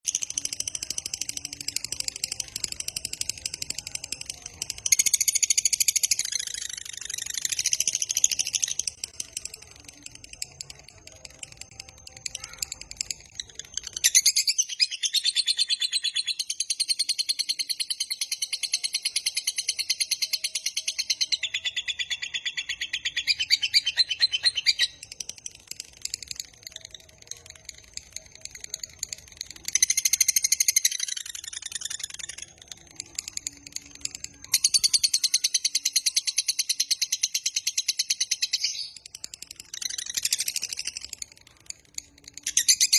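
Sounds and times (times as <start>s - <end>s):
lovebird chattering: 0.1s - 42.9s.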